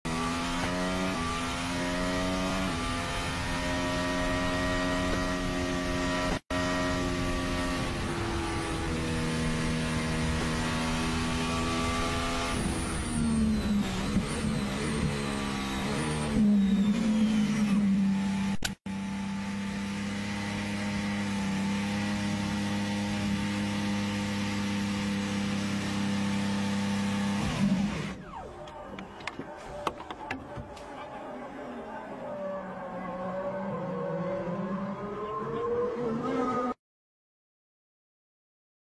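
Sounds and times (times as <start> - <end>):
race car engine at high revs: 0.1 - 36.8.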